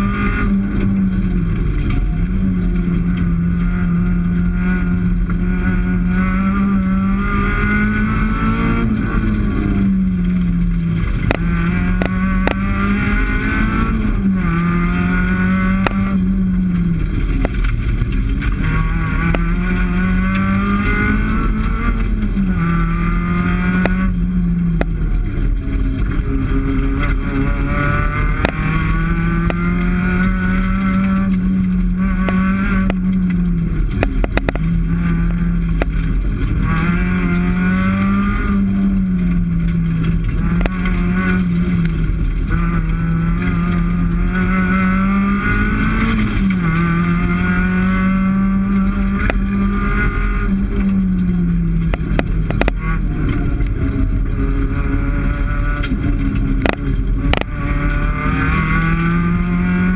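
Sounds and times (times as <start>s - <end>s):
rally car engine accelerating: 0.0s - 59.9s
sharp knocks and clicks: 10.9s - 59.9s.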